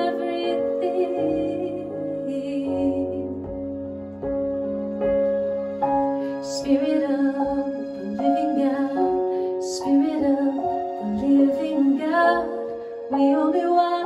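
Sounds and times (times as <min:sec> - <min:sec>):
woman singing: 0:00.0 - 0:03.8, 0:06.3 - 0:14.0
electric keyboard piano chords: 0:00.0 - 0:14.0.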